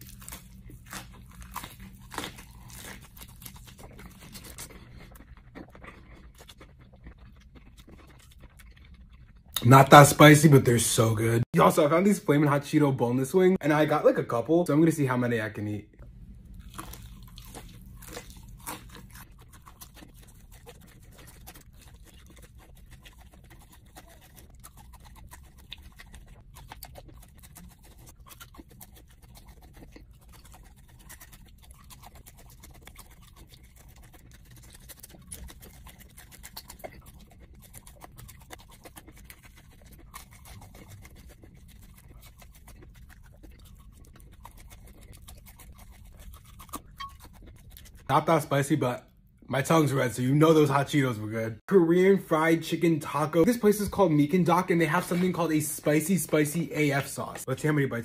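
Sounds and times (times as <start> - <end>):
chewing and crunching: 0.0 - 15.2, 15.9 - 58.0
low steady hum: 0.0 - 58.0.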